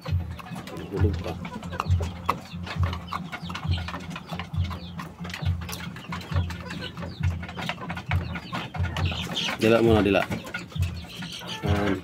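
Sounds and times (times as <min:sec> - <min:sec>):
beak pecking plastic dish: 0:00.0 - 0:12.0.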